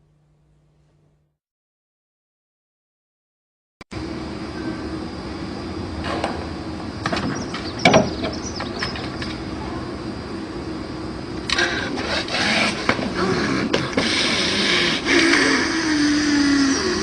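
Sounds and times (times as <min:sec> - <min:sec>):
steady low hum: 0:00.0 - 0:01.3, 0:03.9 - 0:17.0.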